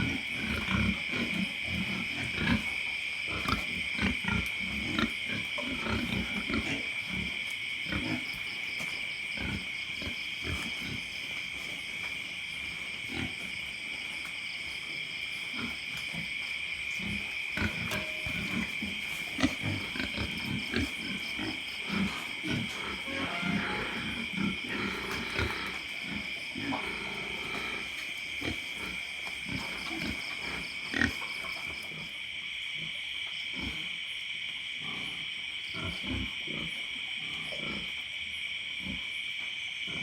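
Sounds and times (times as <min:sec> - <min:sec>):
pigs snoring: 0:00.0 - 0:32.2, 0:33.5 - 0:34.0, 0:34.8 - 0:38.0
night insects chorus: 0:00.0 - 0:40.0.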